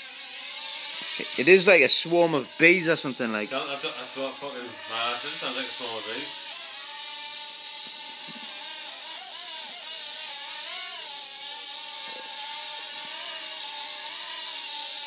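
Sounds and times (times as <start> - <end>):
toy helicopter motor whining: 0.0 - 15.0.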